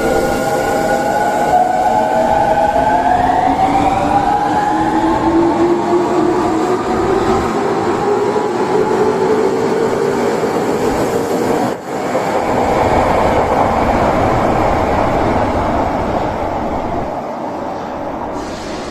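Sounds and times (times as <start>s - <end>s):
subway train wheels on rails: 0.0s - 18.9s.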